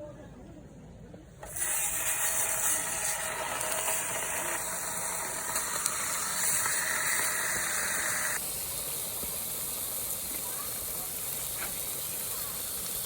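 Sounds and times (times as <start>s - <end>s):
food sizzling in a pan: 1.4s - 13.0s.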